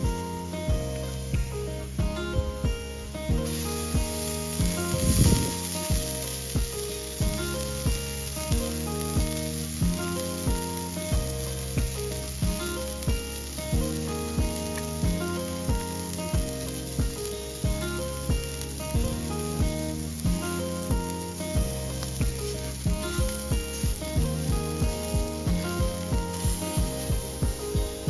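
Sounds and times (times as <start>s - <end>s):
background music with a beat: 0.0s - 28.0s
meat sizzling on a griddle: 0.0s - 28.0s.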